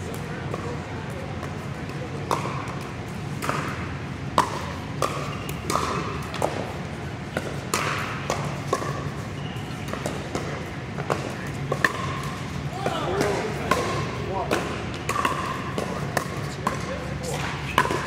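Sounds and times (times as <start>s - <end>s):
paddles hitting pickleball: 0.0s - 18.0s.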